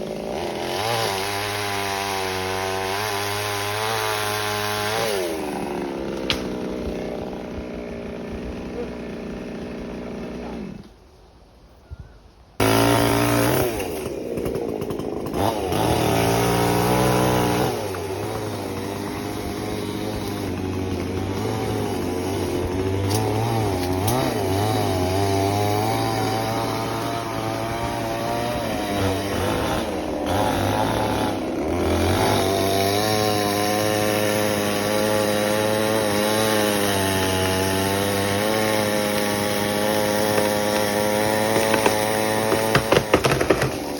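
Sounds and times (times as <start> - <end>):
chainsaw cutting branches: 0.0 - 11.0, 12.6 - 43.9.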